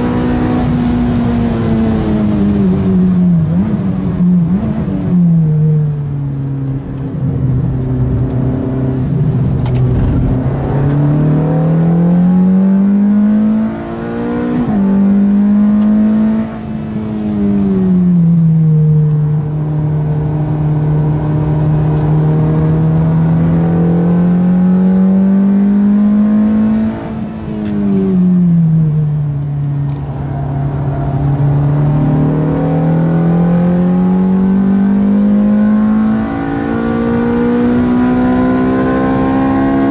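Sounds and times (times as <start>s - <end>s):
sports car engine revving: 0.0s - 39.9s.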